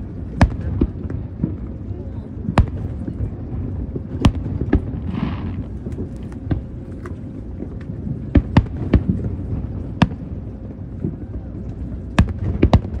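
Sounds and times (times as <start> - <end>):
fireworks booming: 0.0 - 13.0
low rumble: 0.0 - 13.0.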